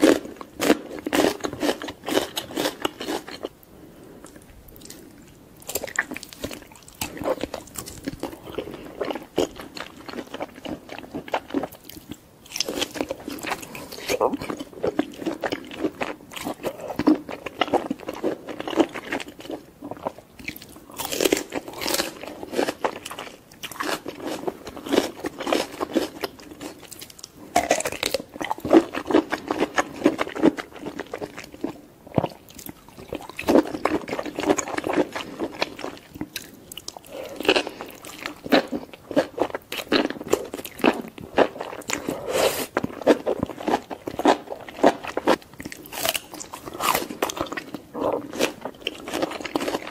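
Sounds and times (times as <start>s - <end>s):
chewing mushrooms: 0.0s - 3.6s, 4.2s - 49.9s.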